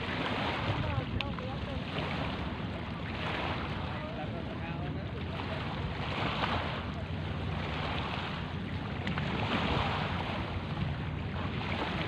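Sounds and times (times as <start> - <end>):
low steady hum: 0.0 - 12.0
water washing against seawall: 0.0 - 12.0.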